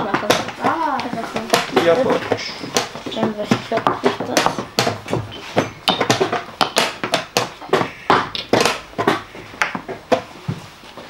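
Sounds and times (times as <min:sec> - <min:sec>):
chess pieces knocking on board: 0:00.0 - 0:10.6.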